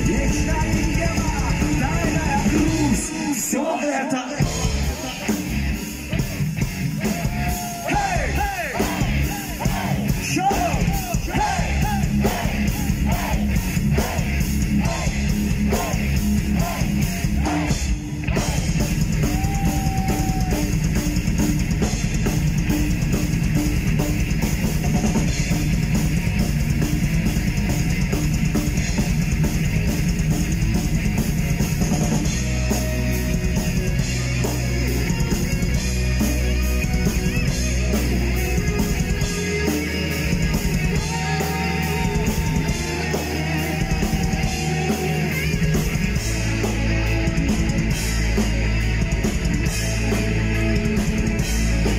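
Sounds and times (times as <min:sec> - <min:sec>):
heavy metal band playing: 0:00.0 - 0:51.9.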